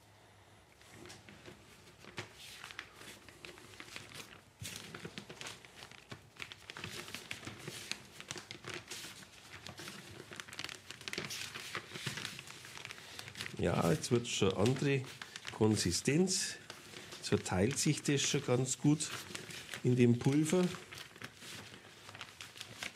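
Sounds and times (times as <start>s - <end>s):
plastic foil crinkling: 0.9s - 22.9s.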